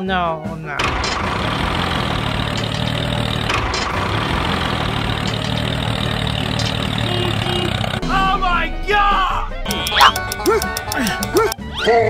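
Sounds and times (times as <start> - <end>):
tractor engine idling: 0.8 - 8.8, 9.6 - 11.6.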